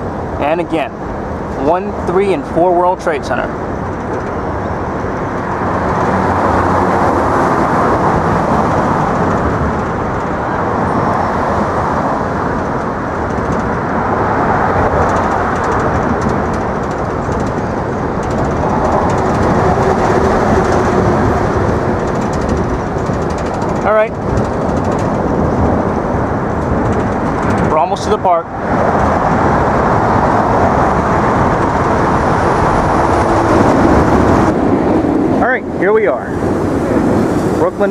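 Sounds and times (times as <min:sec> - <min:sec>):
train wheels rumbling on track: 0:00.0 - 0:37.9.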